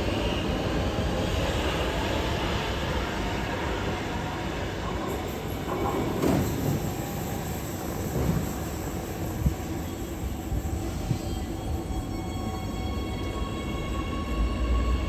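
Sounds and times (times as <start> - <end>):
metro train rumbling into tunnel: 0.0 - 15.0.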